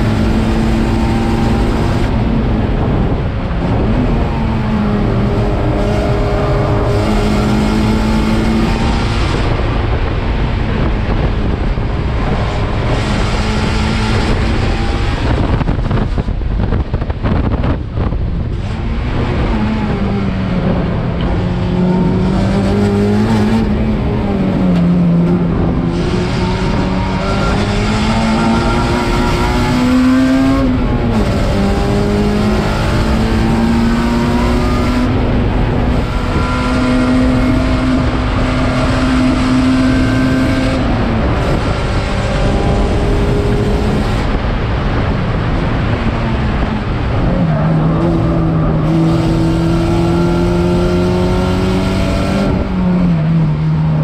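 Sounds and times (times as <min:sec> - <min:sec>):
race car engine revving: 0:00.0 - 0:54.0
road and wind noise: 0:00.0 - 0:54.0.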